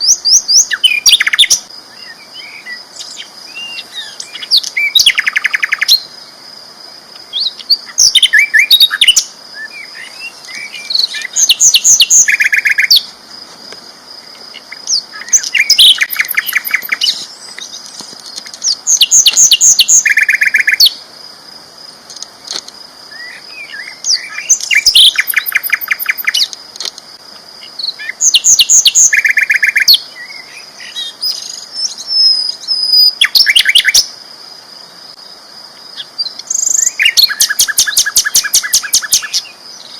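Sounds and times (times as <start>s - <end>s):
flycatcher singing trills: 0.0s - 6.2s, 7.3s - 13.1s, 14.2s - 21.0s, 23.0s - 26.6s, 27.6s - 34.1s, 35.9s - 39.9s.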